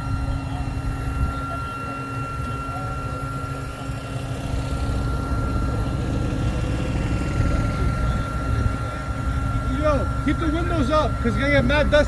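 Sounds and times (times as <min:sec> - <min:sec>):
engine running: 0:00.0 - 0:12.0
faint steady whine: 0:00.0 - 0:12.0.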